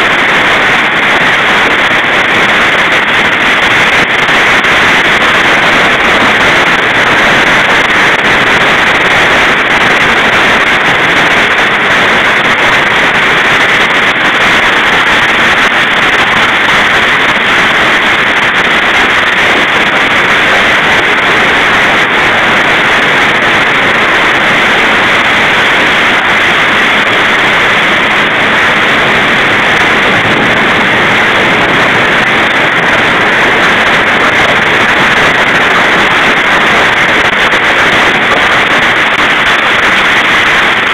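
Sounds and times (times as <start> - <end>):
heavy hail and rain: 0.0 - 40.9.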